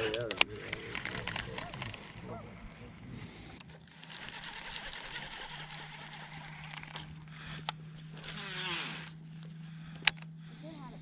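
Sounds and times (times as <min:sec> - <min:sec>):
electric trolling motor humming: 0:00.0 - 0:11.0.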